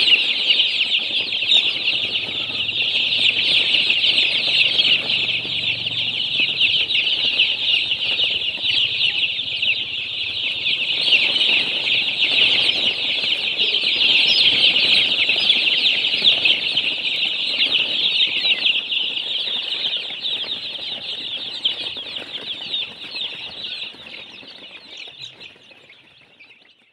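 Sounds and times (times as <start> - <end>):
baby chicks peeping: 0.0 - 26.9.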